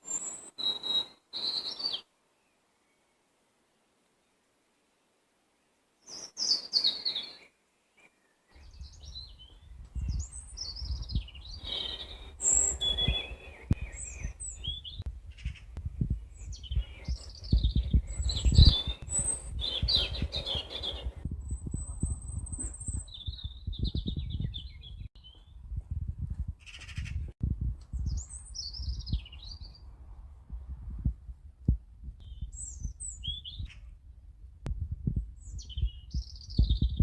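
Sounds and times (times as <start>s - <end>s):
songbirds singing: 0.0s - 3.2s, 6.0s - 25.8s, 26.6s - 30.0s, 32.1s - 34.0s, 35.0s - 37.0s.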